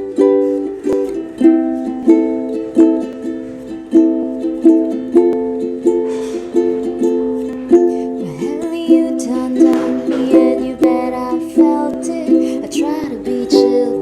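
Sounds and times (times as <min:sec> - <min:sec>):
ukulele strumming chords: 0:00.0 - 0:14.0.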